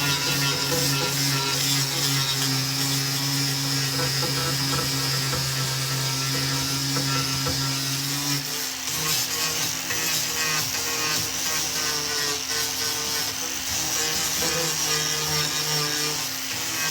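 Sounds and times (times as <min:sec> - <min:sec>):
power tool motor humming: 0:00.0 - 0:16.9.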